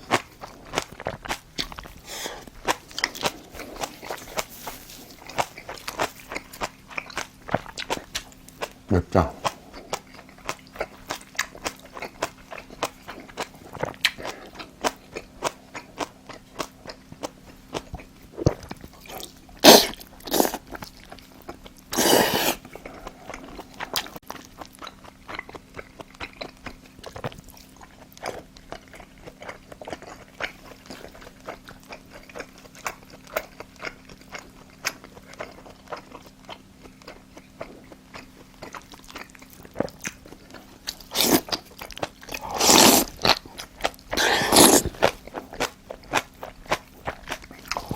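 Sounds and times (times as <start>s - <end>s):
close chewing mouth noises: 0.0s - 47.9s.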